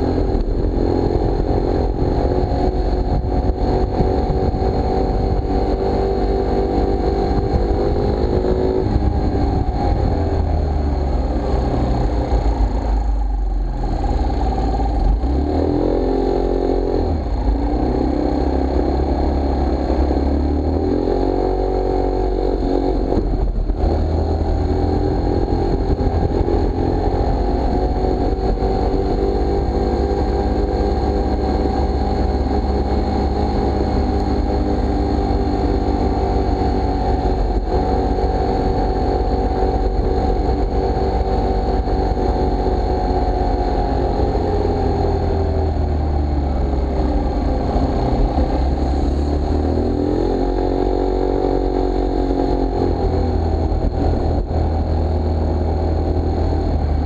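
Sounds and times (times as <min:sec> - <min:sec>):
motor scooter engine: 0:00.0 - 0:57.0.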